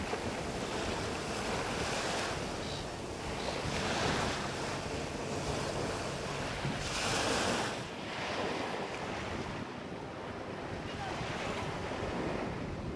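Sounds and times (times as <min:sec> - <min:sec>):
small waves washing on beach: 0:00.0 - 0:12.9.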